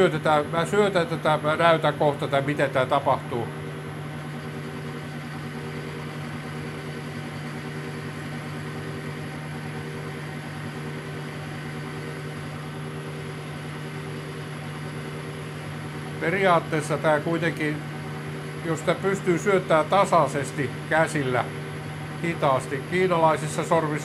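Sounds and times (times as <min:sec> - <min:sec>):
lathe motor humming: 0:00.0 - 0:24.0.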